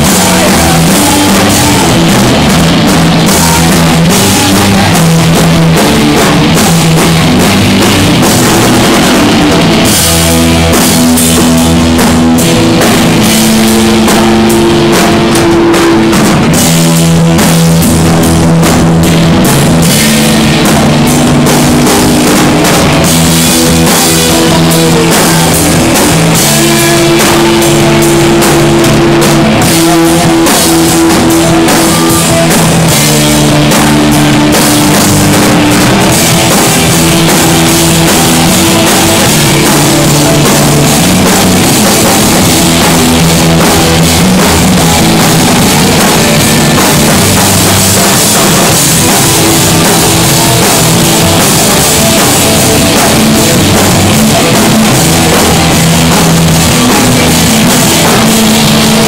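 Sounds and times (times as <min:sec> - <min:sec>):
drum kit with busy cymbals: 0:00.0 - 0:59.0
electric guitar riff: 0:00.0 - 0:59.0.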